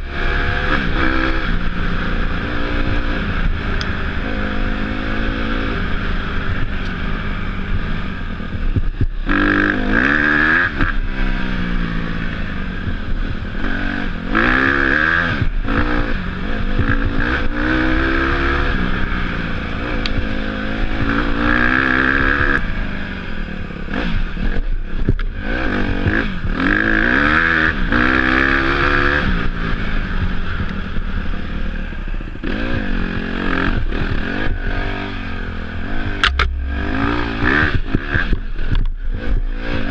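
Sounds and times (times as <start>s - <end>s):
dirt bike engine revving: 0.0s - 23.0s, 23.8s - 31.7s, 32.4s - 39.9s.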